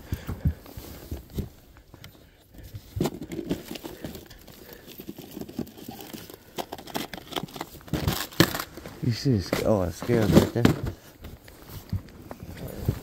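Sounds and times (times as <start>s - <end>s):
crinkling rustles: 0.1s - 13.0s.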